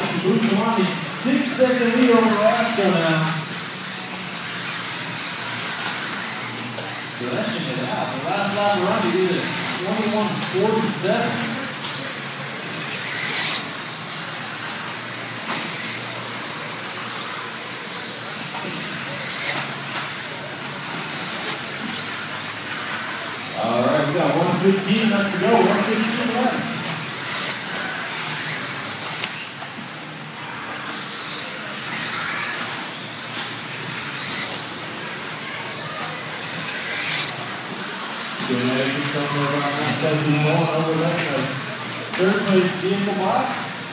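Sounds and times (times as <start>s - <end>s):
rc car motors whining: 0.0s - 43.9s
rc car tyre noise: 0.0s - 43.9s.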